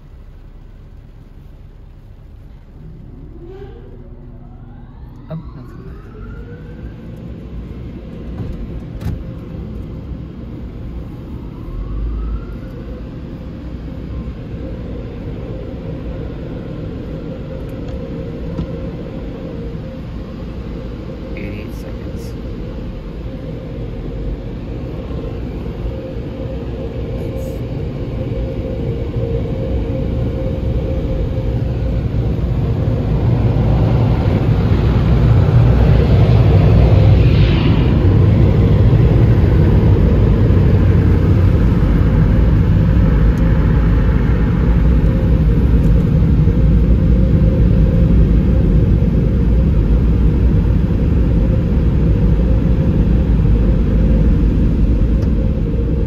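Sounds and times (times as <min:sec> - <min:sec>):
car wash machinery rumble: 0:00.0 - 0:56.0
dryer roar: 0:00.0 - 0:56.0
steady hum: 0:00.0 - 0:56.0.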